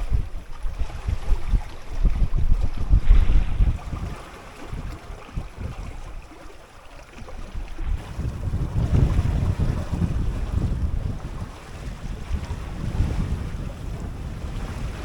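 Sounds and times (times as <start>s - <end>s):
water rushing along a hull: 0.0s - 15.0s
wind buffeting microphone: 0.0s - 15.0s.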